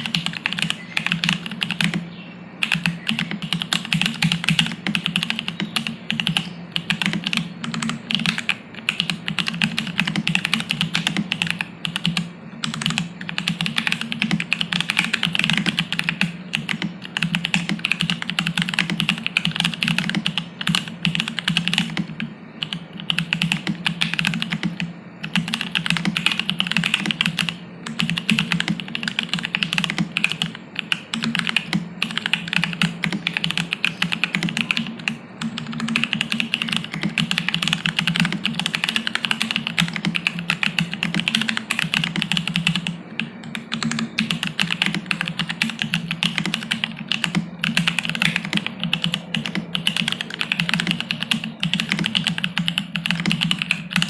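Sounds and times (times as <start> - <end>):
fast mechanical keyboard typing: 0.0 - 2.0, 2.6 - 54.0.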